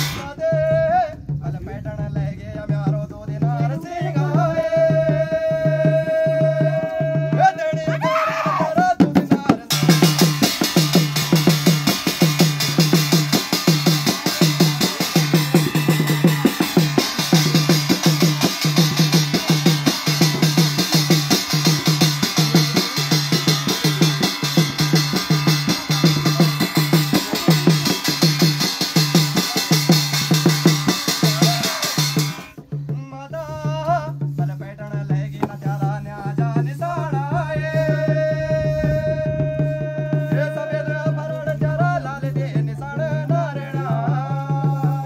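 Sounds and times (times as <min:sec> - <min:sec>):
fast drumming: 0:00.0 - 0:45.0
person singing: 0:03.4 - 0:34.6, 0:35.2 - 0:45.0.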